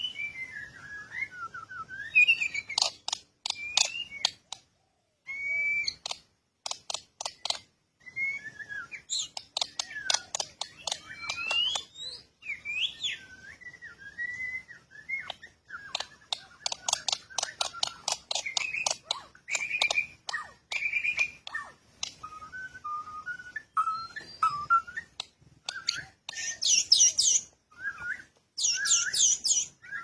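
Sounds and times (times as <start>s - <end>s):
whistled bird calls: 0.0s - 6.3s, 6.9s - 30.0s.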